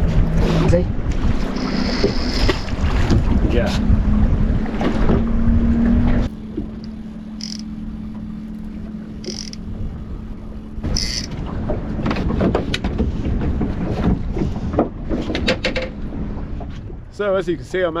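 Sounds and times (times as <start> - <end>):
boat engine humming: 0.0 - 18.0
water noise: 0.0 - 18.0
wind rumbling: 0.0 - 18.0.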